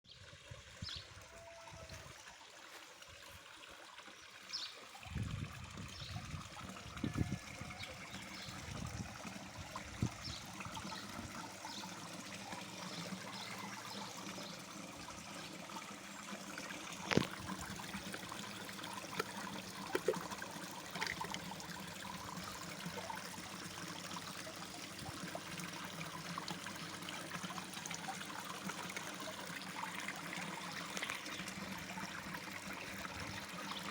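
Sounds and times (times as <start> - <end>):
waterfall splashing into pond: 2.2 - 33.9.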